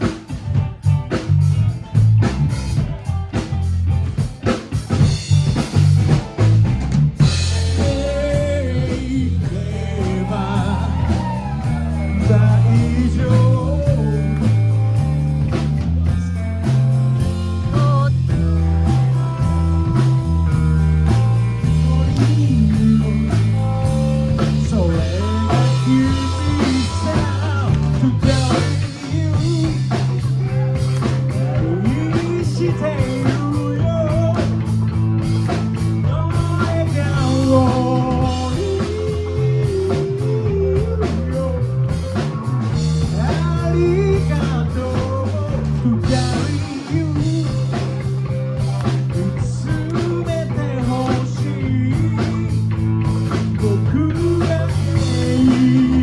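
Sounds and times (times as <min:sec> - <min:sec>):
electric guitar: 0:00.0 - 0:56.0
heavy bass line: 0:00.0 - 0:56.0
rock band playing live: 0:00.0 - 0:56.0.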